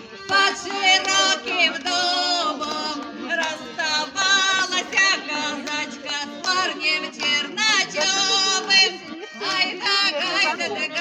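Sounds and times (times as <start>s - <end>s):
musical accompaniment: 0.0s - 11.0s
men and women singing together: 0.2s - 11.0s.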